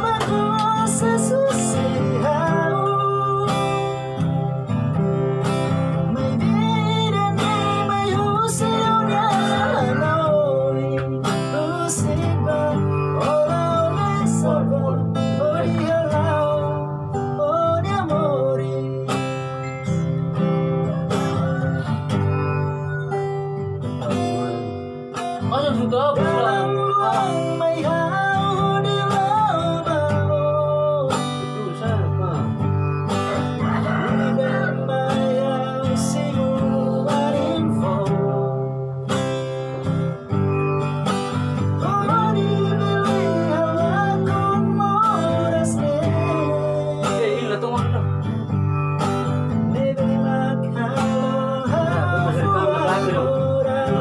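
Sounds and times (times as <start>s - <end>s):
acoustic guitar strumming: 0.0s - 54.0s
person singing: 0.0s - 54.0s.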